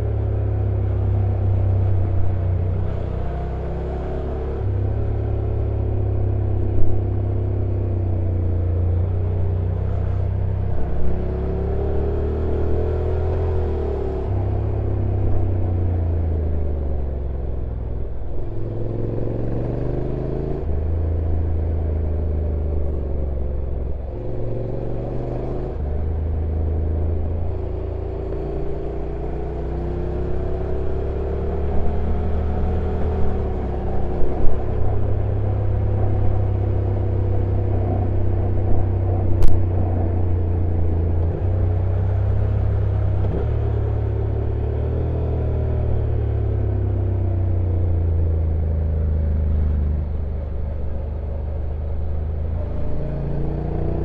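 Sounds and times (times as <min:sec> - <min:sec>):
motorcycle engine shifting gears: 0:00.0 - 0:54.0
road rumble: 0:00.0 - 0:54.0.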